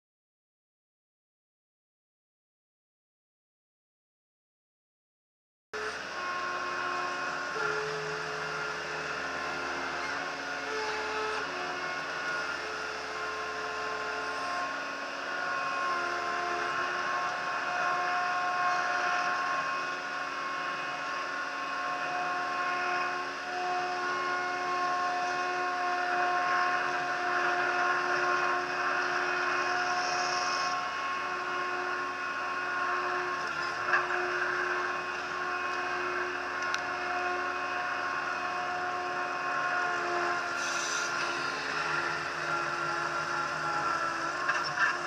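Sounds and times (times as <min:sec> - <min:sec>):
loader engine revving: 0:05.8 - 0:45.0.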